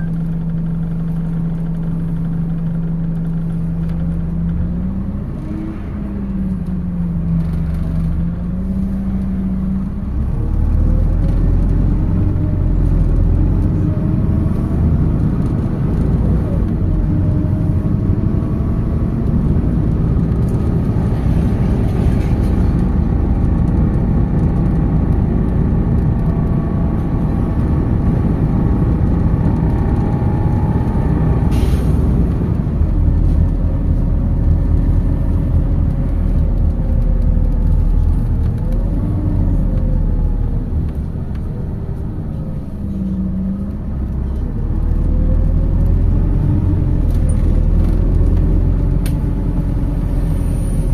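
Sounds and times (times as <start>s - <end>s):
bus engine and road rumble: 0.0s - 50.9s.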